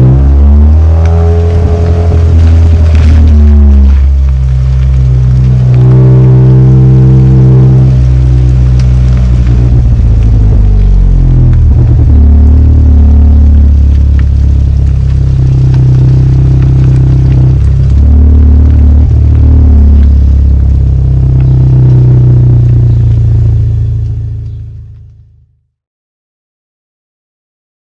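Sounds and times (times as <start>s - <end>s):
car engine deep exhaust note: 0.0s - 25.6s.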